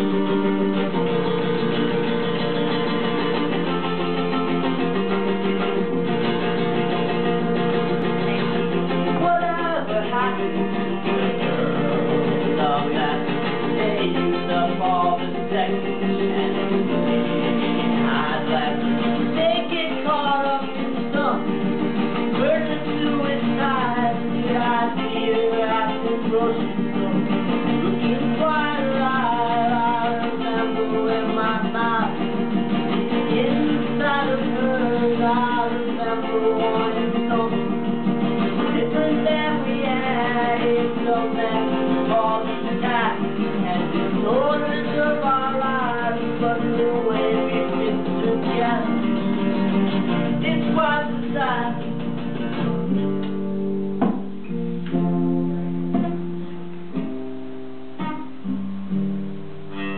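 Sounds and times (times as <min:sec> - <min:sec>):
man singing folk song: 0:00.0 - 0:53.2
classical guitar strumming: 0:00.0 - 0:59.9.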